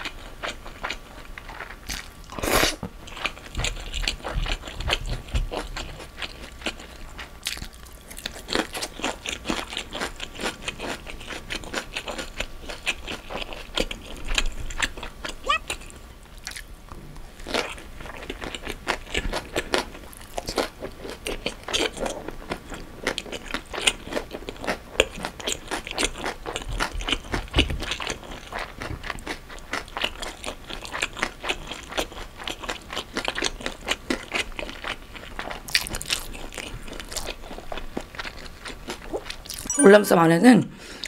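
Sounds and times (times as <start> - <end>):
crisp chewing crunches: 0.0 - 39.7.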